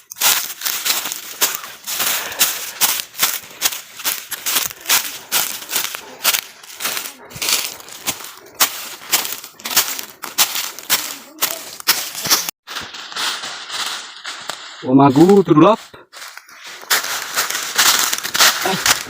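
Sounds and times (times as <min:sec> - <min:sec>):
footsteps crunching on forest floor: 0:00.0 - 0:19.0.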